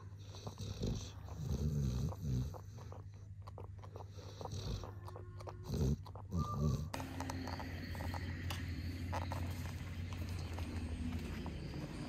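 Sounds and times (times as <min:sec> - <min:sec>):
dog snoring: 0:00.0 - 0:12.0.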